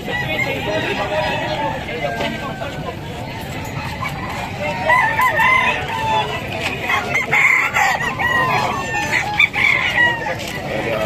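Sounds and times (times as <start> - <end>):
roosters crowing: 0.0 - 3.2, 4.6 - 11.0.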